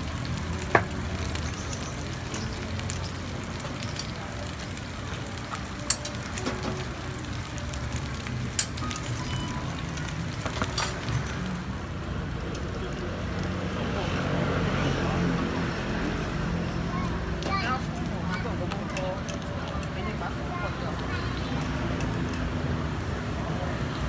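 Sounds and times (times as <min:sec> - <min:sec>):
food sizzling in oil: 0:00.0 - 0:23.1.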